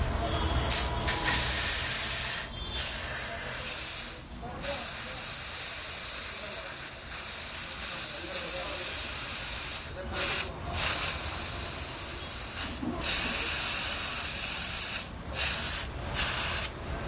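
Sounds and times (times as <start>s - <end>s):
compressed air hissing: 0.7s - 16.8s.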